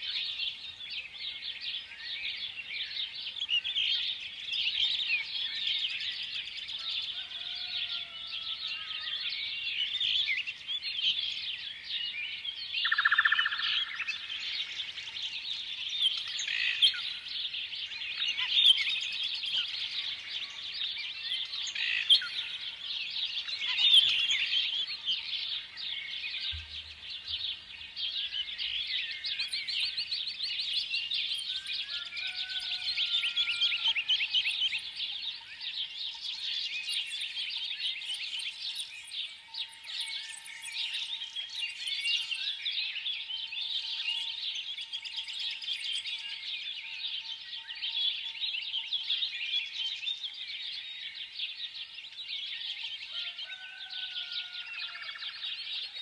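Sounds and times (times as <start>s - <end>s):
flock of small birds chirping: 0.0s - 56.0s.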